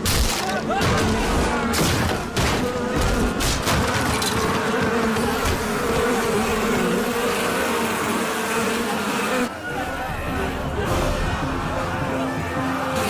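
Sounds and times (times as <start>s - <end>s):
bees buzzing: 1.3s - 13.0s.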